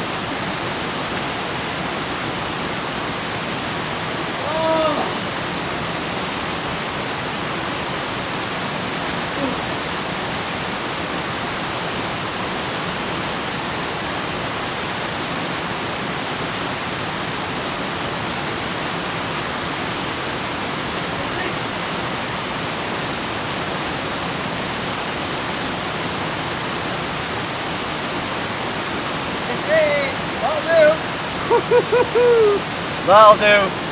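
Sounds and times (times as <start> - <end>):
waterfall rushing into pool: 0.0 - 33.9.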